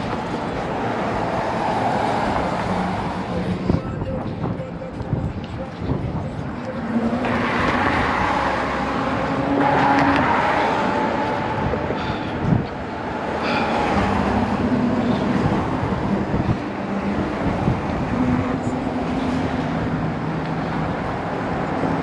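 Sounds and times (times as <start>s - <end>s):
car traffic rushing past: 0.0s - 3.8s, 6.4s - 22.0s.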